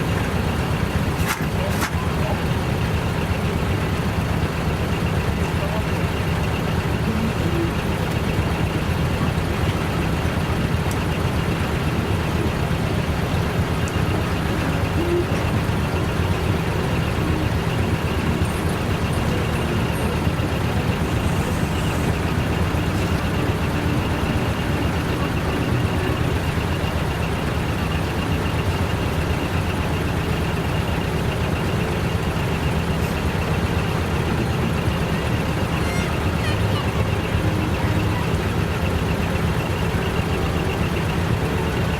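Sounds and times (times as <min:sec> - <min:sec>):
diesel truck engines droning: 0:00.0 - 0:41.9.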